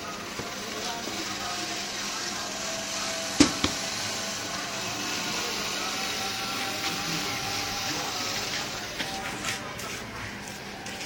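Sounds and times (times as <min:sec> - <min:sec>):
faint motor whine: 0:00.0 - 0:11.0
hissing water spray: 0:00.0 - 0:11.0.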